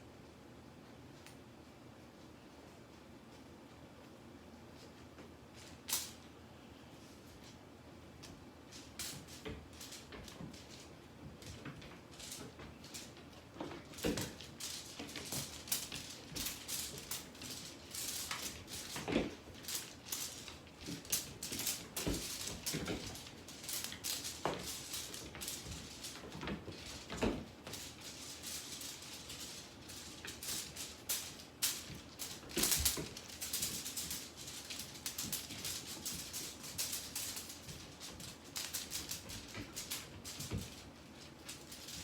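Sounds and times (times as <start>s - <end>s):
rustling and scratching: 6.8s - 42.0s.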